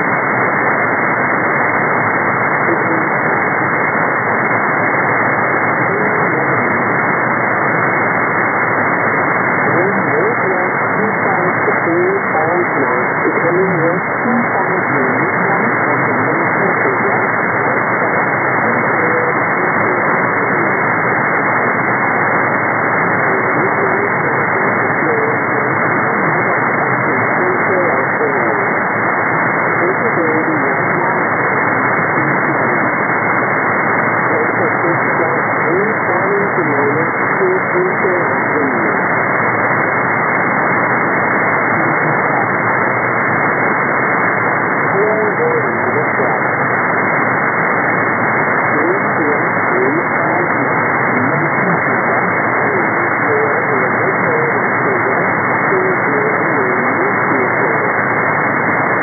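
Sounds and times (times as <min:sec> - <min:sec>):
radio static hiss: 0:00.0 - 0:59.0
weak radio voice: 0:00.0 - 0:59.0.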